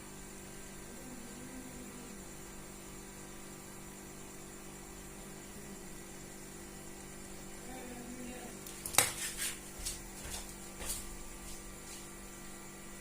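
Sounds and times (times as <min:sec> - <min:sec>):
electrical hum and hiss: 0:00.0 - 0:13.0.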